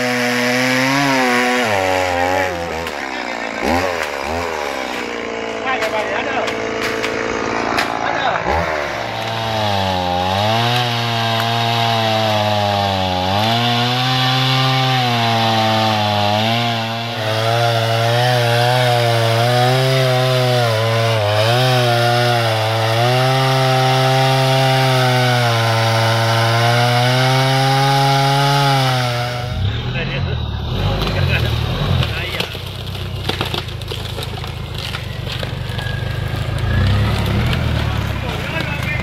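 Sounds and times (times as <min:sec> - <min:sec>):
chainsaw cutting wood: 0:00.0 - 0:29.8, 0:30.7 - 0:39.0.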